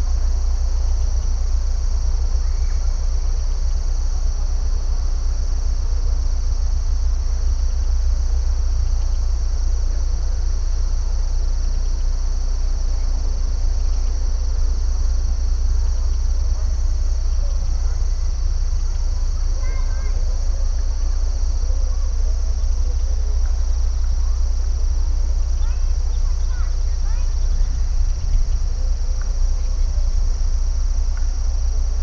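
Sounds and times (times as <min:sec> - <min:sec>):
crickets trilling: 0:00.0 - 0:32.0
steady low rumble: 0:00.0 - 0:32.0.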